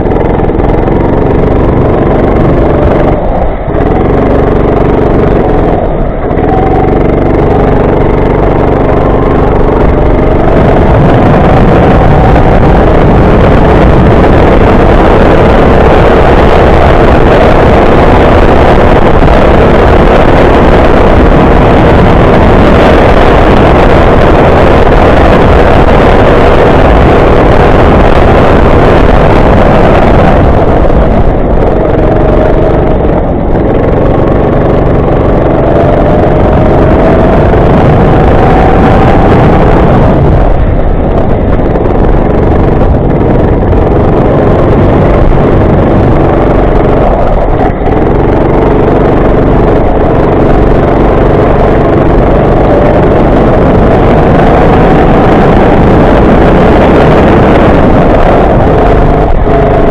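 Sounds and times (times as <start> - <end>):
go-kart engine accelerating: 0.0 - 59.9.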